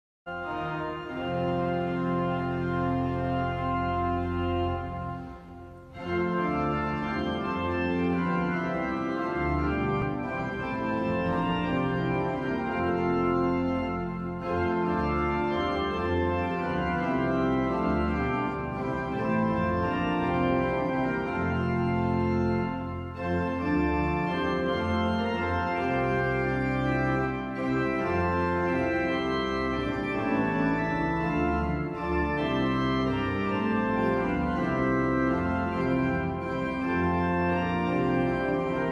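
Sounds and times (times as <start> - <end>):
organ chords: 0.3 - 38.9.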